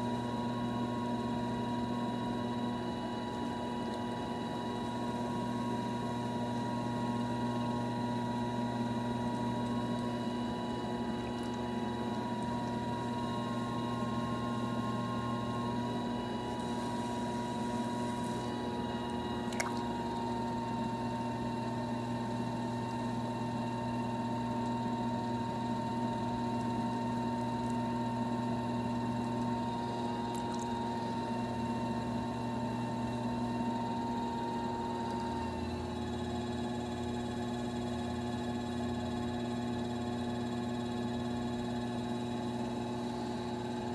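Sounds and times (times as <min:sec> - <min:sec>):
potter's wheel motor humming: 0:00.0 - 0:43.9.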